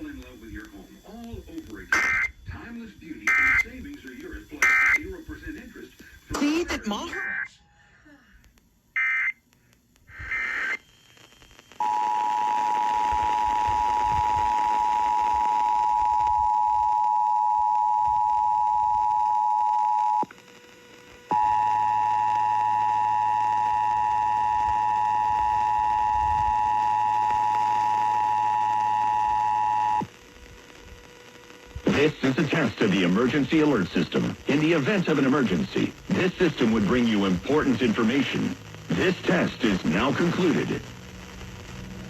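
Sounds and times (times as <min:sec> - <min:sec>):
high data tones: 0:00.0 - 0:02.5, 0:03.2 - 0:05.1, 0:10.0 - 0:41.9
faint low hum: 0:00.0 - 0:42.0.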